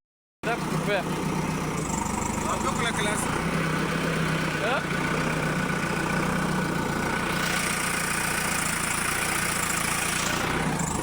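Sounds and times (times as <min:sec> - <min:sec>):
diesel engine idling: 0:00.4 - 0:11.0.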